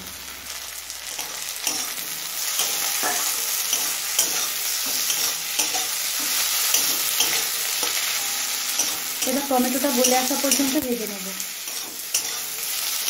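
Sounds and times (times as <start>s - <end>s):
vegetables sizzling in hot oil: 0.0s - 13.0s
metal spatula scraping pan: 1.2s - 10.8s, 11.6s - 13.0s.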